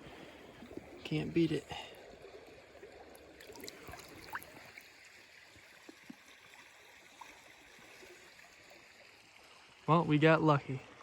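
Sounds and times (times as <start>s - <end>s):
faint river flowing: 0.0s - 11.0s
faint ticks and drips: 0.1s - 11.0s.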